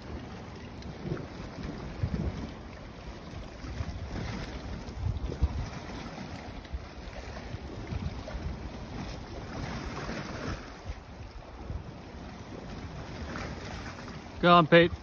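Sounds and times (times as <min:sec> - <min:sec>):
sea wash: 0:00.0 - 0:15.0
wind buffeting microphone: 0:00.0 - 0:15.0.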